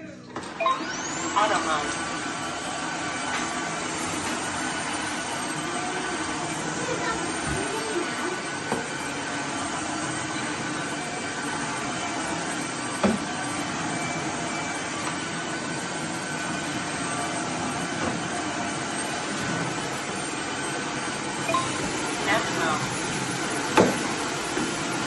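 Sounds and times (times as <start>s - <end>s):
vacuum cleaner motor running: 0.4s - 25.0s.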